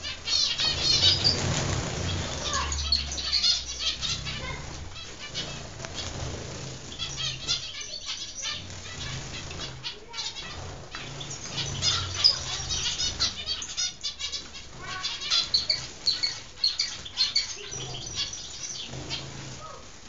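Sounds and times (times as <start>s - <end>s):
finches chirping: 0.0s - 19.9s.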